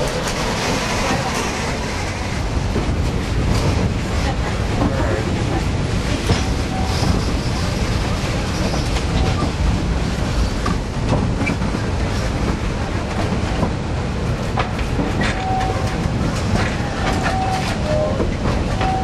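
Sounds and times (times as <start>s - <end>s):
clicks and knocks of train: 0.0s - 19.0s
train wheels rumbling on track: 0.0s - 19.0s.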